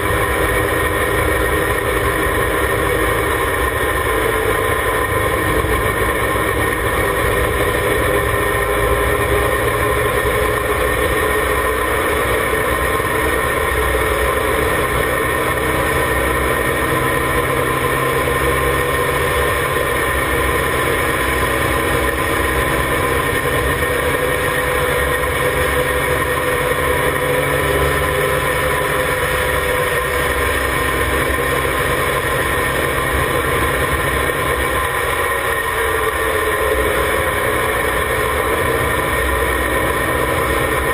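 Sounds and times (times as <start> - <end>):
race car engine running: 0.0 - 40.9.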